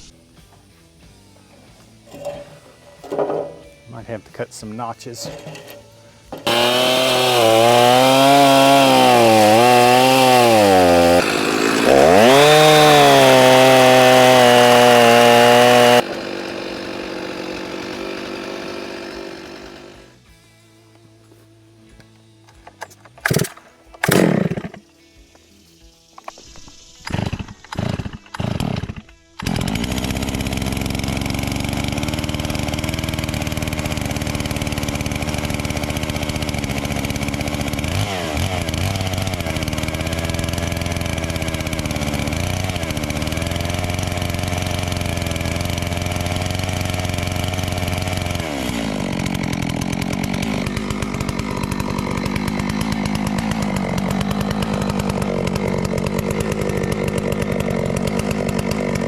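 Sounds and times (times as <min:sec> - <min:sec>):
chainsaw cutting through log: 0:01.6 - 0:20.2, 0:22.8 - 0:24.8, 0:26.6 - 0:59.0.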